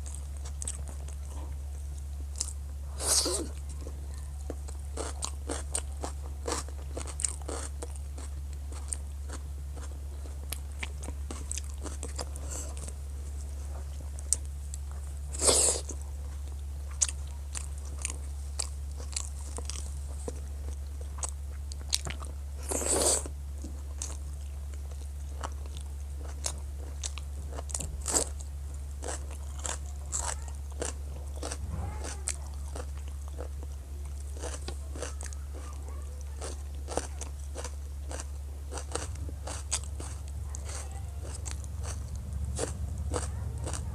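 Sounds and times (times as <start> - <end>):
chewing and mouth clicks: 0.0 - 13.0, 13.7 - 43.9
crunching of fried food: 0.0 - 43.9
low hum: 0.0 - 43.9.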